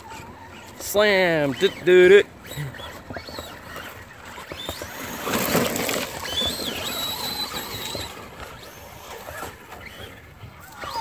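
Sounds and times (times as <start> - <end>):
electric motor whine: 0.0 - 11.0
tyres spraying mud: 0.0 - 11.0.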